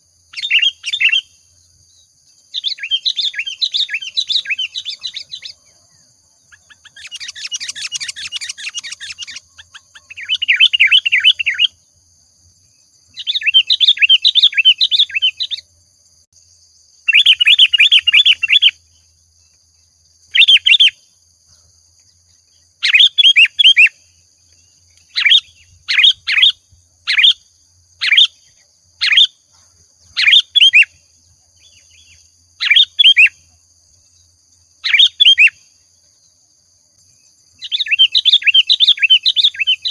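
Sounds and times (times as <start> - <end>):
bulbul chattering chirps: 0.0 - 12.0, 12.8 - 15.7, 17.0 - 35.6, 37.2 - 39.9.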